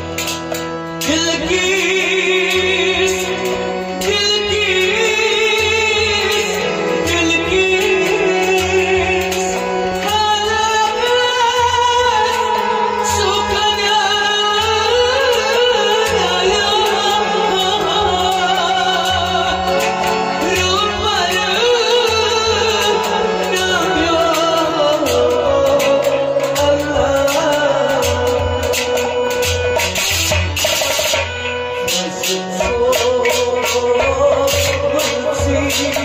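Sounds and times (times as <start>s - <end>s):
low accompaniment with beat: 0.0s - 36.0s
man singing: 0.8s - 30.0s, 31.8s - 36.0s.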